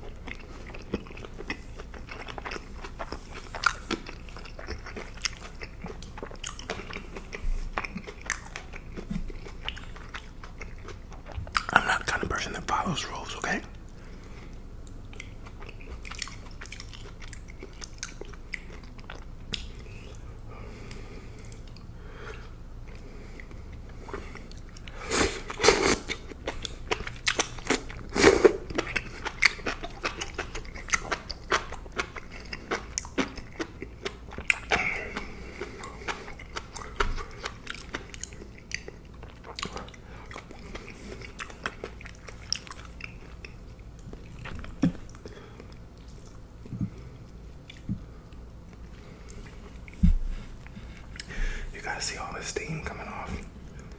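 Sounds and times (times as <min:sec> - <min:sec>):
chewing and biting food: 0:00.0 - 0:12.5, 0:13.7 - 0:52.3.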